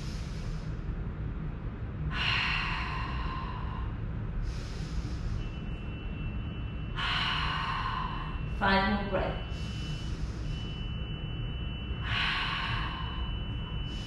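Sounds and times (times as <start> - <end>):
woman breathing: 0.0 - 1.2, 2.0 - 14.0.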